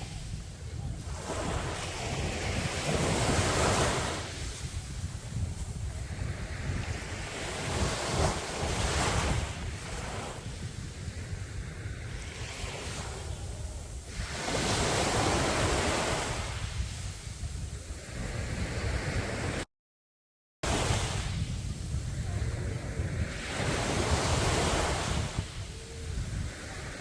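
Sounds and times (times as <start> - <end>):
sea waves breaking on beach: 0.0 - 19.6, 20.6 - 27.0.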